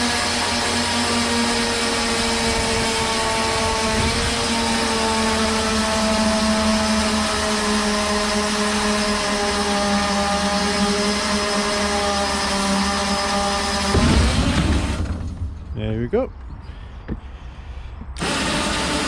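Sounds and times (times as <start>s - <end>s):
winch motor whining: 0.0s - 15.4s, 18.1s - 19.0s.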